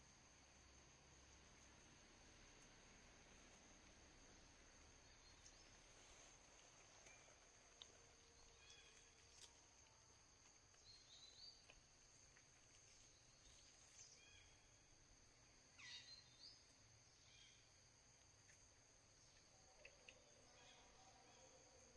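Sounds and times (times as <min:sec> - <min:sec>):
high insect drone: 0:00.0 - 0:21.9.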